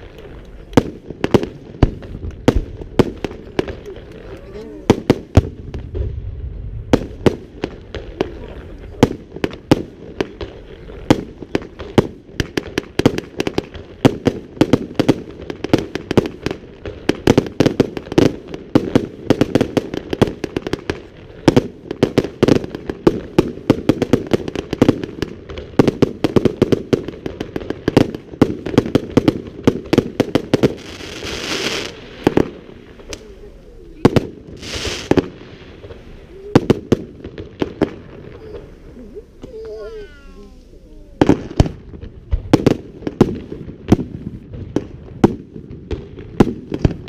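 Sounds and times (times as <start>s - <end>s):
fireworks bangs: 0.0s - 47.0s
fireworks hissing crackle: 0.0s - 47.0s.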